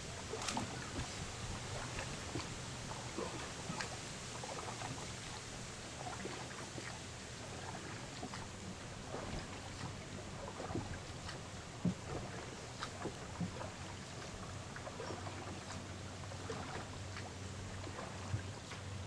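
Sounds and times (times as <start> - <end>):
boat engine running: 0.0 - 19.0
water splashing and lapping: 0.0 - 19.0.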